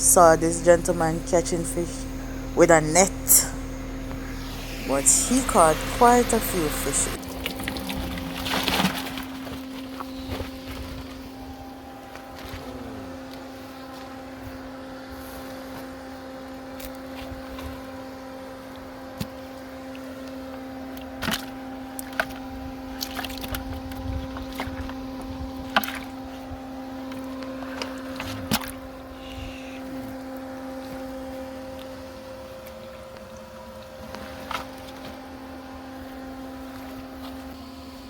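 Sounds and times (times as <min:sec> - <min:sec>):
motor hum: 0:00.0 - 0:38.0.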